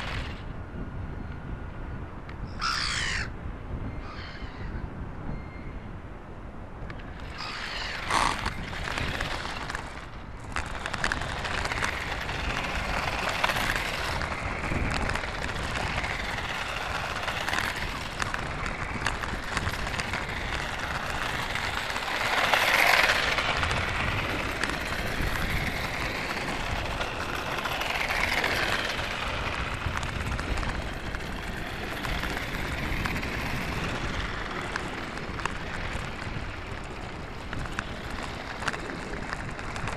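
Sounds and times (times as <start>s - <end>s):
toy car wheels rumbling on tarmac: 0.0s - 39.9s
wind noise on microphone: 0.0s - 39.9s.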